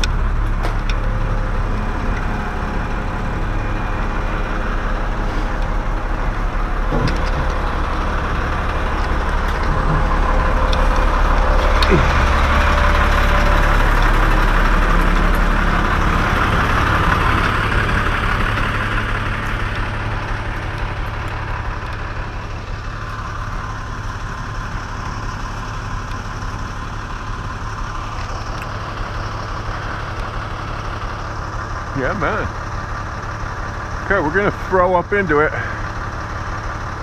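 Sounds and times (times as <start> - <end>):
large engine idling: 0.0 - 37.0.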